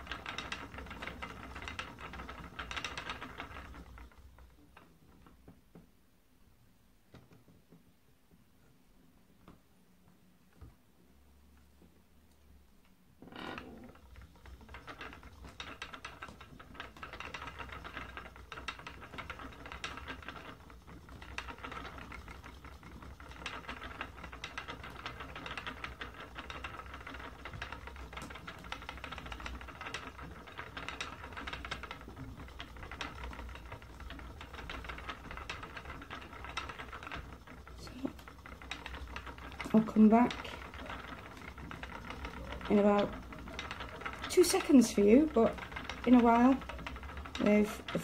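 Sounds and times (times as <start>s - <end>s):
spinning wheel clicking clatter: 0.0s - 5.3s, 13.2s - 48.0s.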